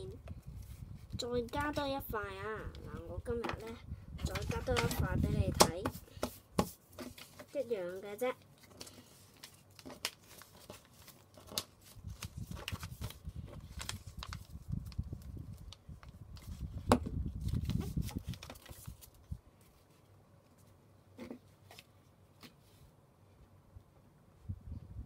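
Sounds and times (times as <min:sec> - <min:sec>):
paper rustling and folding: 0:02.6 - 0:22.8.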